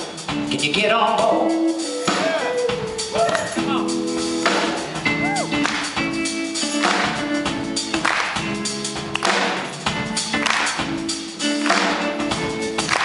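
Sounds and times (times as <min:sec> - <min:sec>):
drum beat: 0:00.0 - 0:13.0
live band playing: 0:00.0 - 0:13.0.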